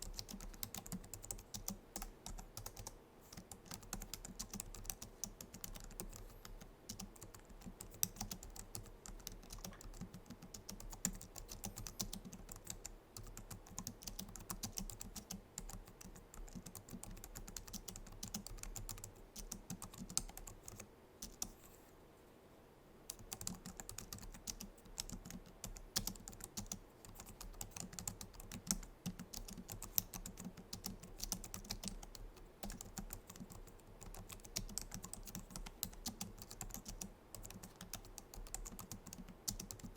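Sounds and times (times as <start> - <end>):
keyboard typing: 0.0 - 21.6, 23.1 - 39.9.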